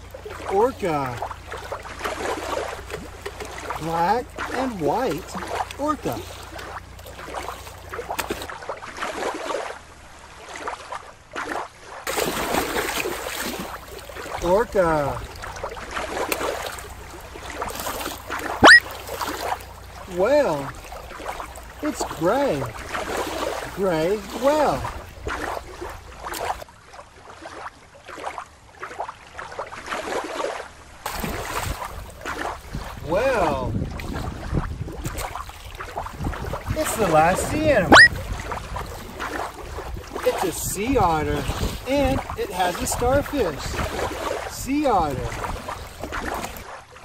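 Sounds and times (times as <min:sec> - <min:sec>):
splashing in shallow water: 0:00.0 - 0:47.0
wind: 0:00.0 - 0:47.0.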